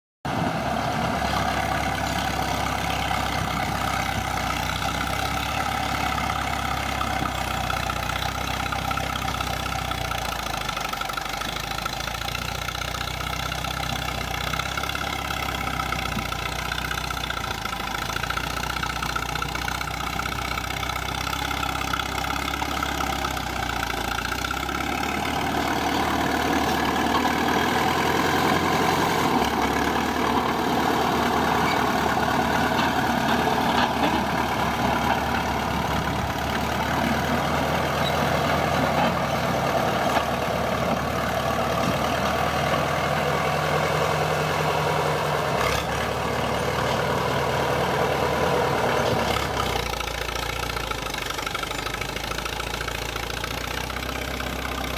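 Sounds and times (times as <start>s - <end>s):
bulldozer diesel engine running: 0.2s - 54.9s.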